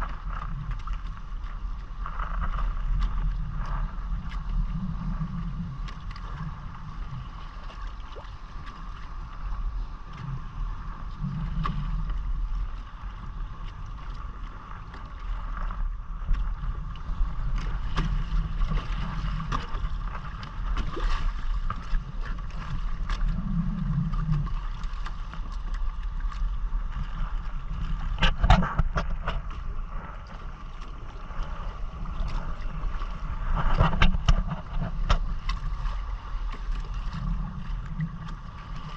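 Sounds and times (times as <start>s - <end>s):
water sloshing against hull: 0.0s - 38.9s
wind rumbling on microphone: 0.0s - 38.9s.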